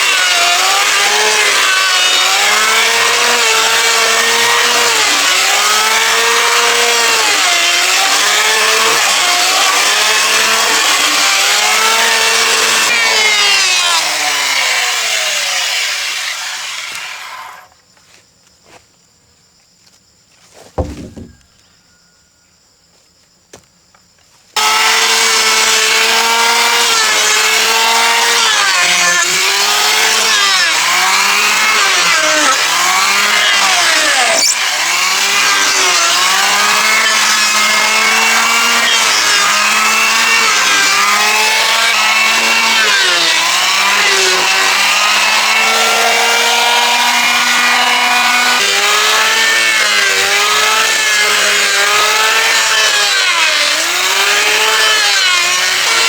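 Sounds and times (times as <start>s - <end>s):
power tool cutting timber: 0.0s - 17.7s, 20.7s - 21.4s, 24.6s - 56.0s.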